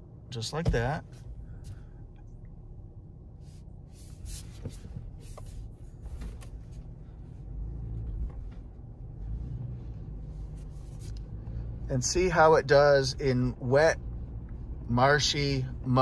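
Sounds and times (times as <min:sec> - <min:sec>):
car engine rumble from inside: 0:00.0 - 0:16.0.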